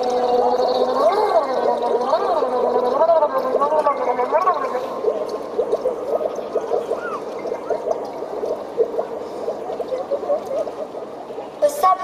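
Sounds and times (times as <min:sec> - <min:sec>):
underwater bubbling blips: 0:00.0 - 0:12.0.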